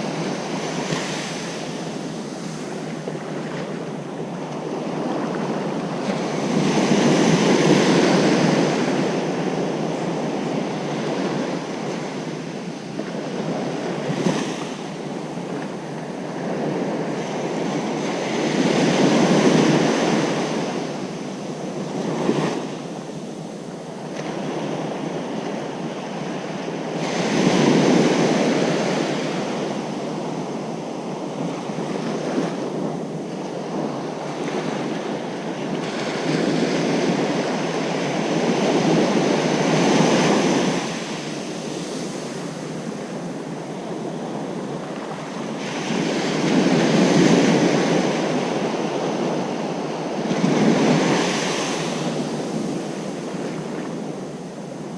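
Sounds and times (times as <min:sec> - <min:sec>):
ocean surf breaking on beach: 0:00.0 - 0:54.9.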